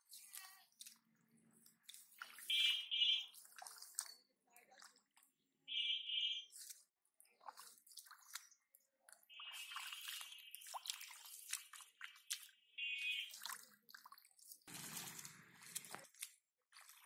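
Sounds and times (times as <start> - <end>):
hands splashing in muddy water: 0.0 - 5.5, 6.4 - 17.0.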